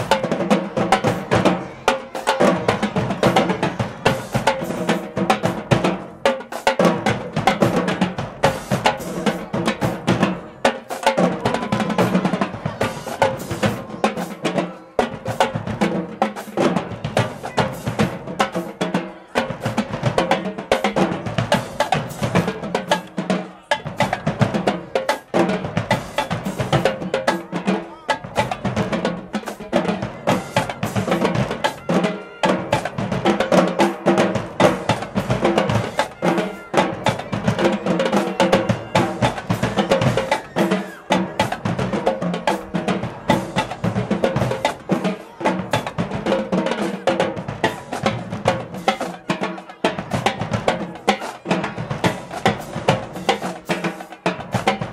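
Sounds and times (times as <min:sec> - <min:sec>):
marching band playing: 0:00.0 - 0:54.9
snare and bass drums: 0:00.0 - 0:54.9.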